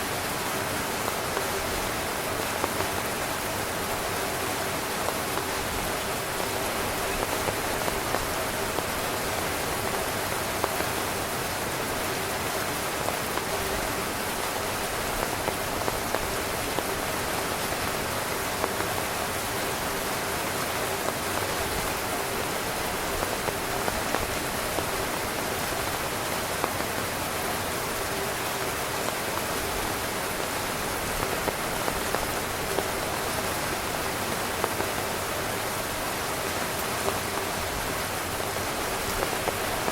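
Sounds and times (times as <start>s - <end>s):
rain falling on a tent: 0.0s - 39.9s
raindrops tapping on fabric: 0.1s - 39.9s.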